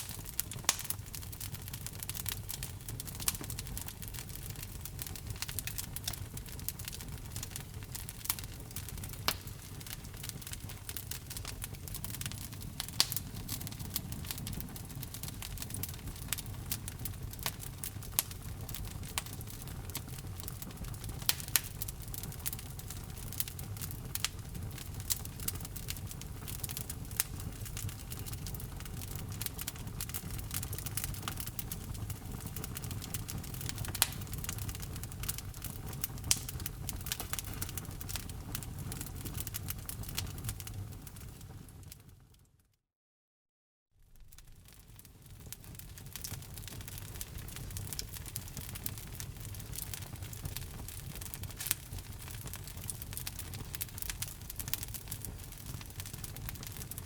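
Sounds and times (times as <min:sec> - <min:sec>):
low rumble of flames: 0:00.0 - 0:42.3, 0:44.0 - 0:57.0
fire crackling and popping: 0:00.0 - 0:42.4, 0:44.0 - 0:57.0.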